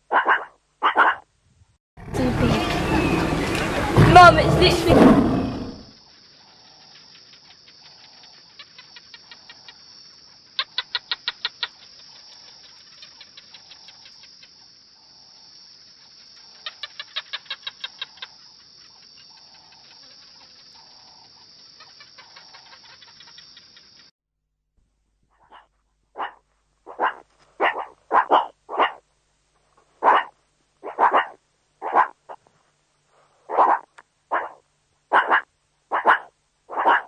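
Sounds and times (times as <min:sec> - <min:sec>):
animal rapid clicking calls: 0:00.1 - 0:01.2, 0:02.6 - 0:14.7, 0:15.9 - 0:24.1, 0:25.4 - 0:29.0, 0:30.0 - 0:32.4, 0:33.5 - 0:37.0.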